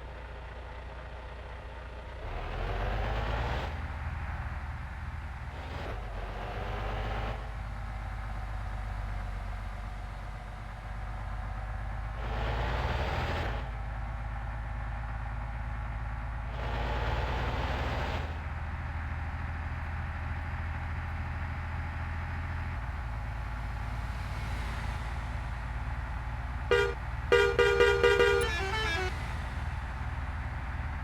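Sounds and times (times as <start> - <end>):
truck engine accelerating through gears: 2.1 - 14.1, 16.0 - 31.0.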